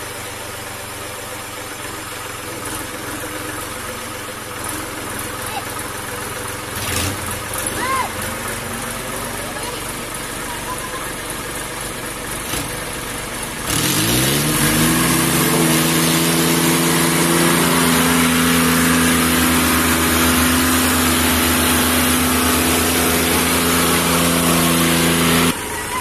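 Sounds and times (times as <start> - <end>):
tractor diesel engine revving: 0.0 - 26.0.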